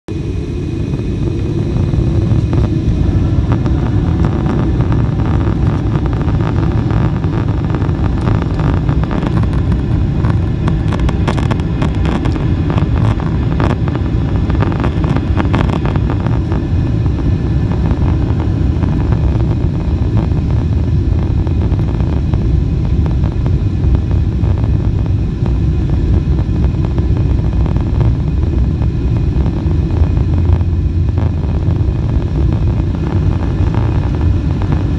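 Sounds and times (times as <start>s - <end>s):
jet engines rumbling: 0.1s - 34.9s.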